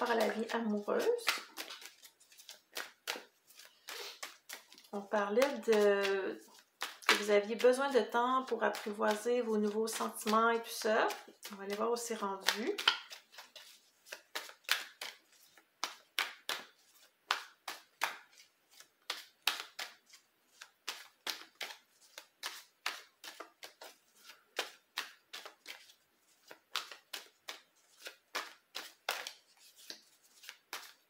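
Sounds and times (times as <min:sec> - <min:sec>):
cards being shuffled: 0:00.0 - 0:31.0.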